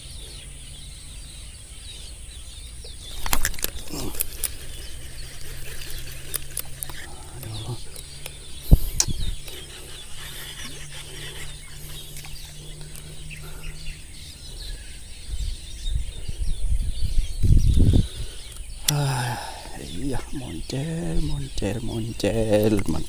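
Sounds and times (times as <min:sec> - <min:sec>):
birds chirping: 0:00.0 - 0:23.0
low steady hum: 0:00.0 - 0:23.0.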